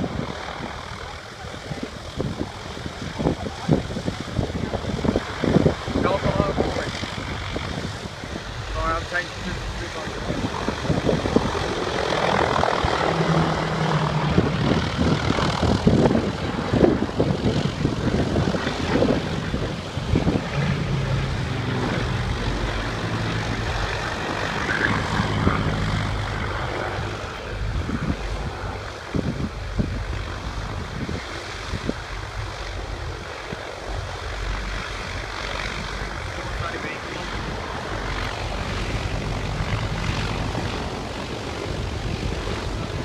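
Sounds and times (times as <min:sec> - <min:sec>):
piston engines droning: 0:04.7 - 0:30.9, 0:31.5 - 0:43.0.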